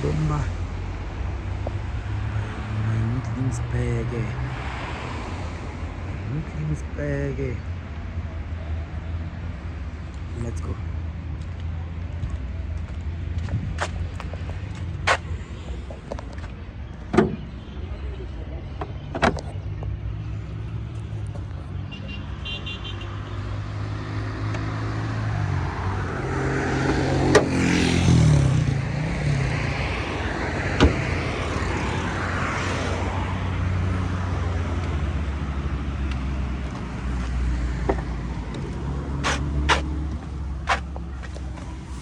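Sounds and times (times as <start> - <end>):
road traffic noise: 0.0 - 42.0.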